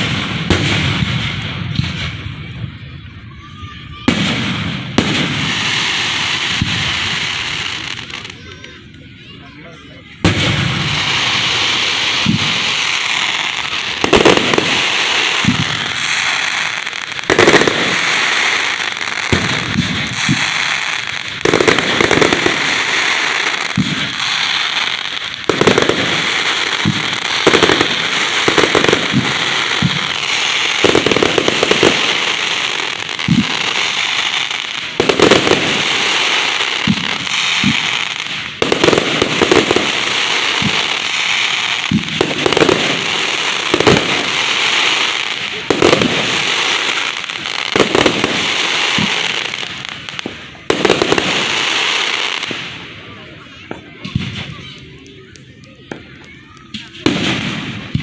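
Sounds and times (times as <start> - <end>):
fireworks crackling: 0.0 - 58.0
fireworks shells bursting with bangs: 0.0 - 58.0.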